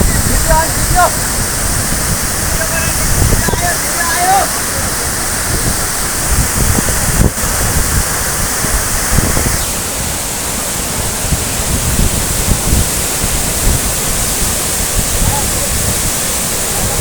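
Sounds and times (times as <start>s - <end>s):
low buffeting: 0.0s - 17.0s
waterfall rushing: 0.0s - 17.0s.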